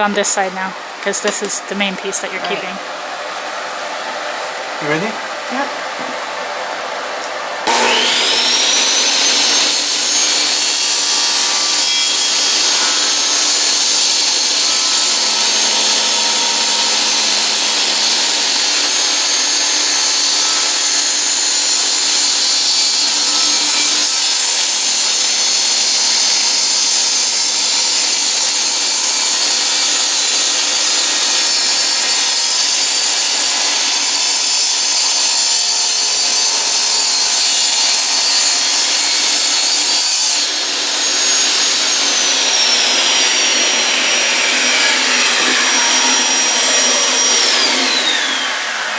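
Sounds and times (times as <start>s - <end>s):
power saw cutting wood: 0.0s - 6.5s, 7.6s - 48.9s.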